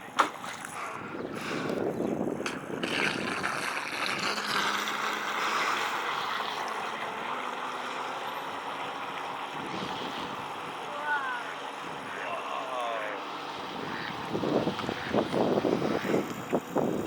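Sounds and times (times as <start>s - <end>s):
rc speedboat motor rushing hiss: 0.5s - 17.0s.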